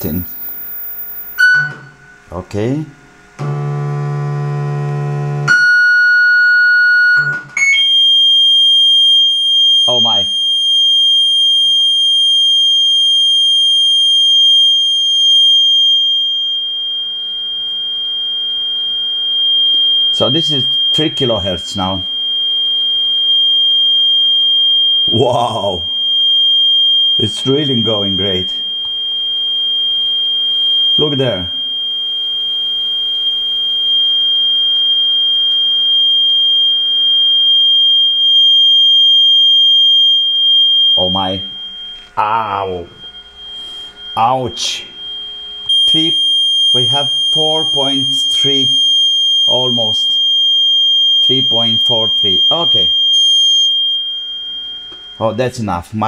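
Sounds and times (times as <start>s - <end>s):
sine test tone through loudspeaker: 0.0s - 56.0s.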